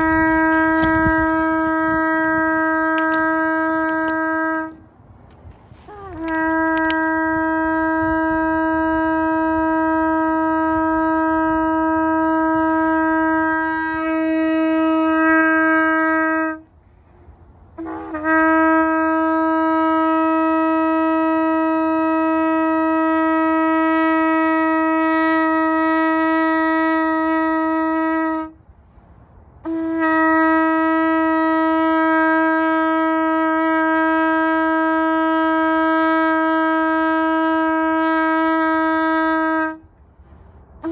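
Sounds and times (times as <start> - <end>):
shofar blasts: 0.0 - 4.9, 5.5 - 16.7, 17.7 - 28.6, 29.6 - 39.9.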